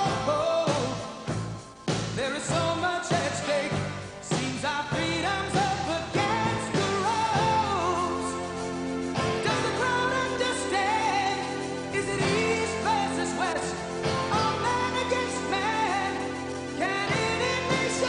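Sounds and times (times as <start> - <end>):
pop song with singing: 0.0 - 18.0.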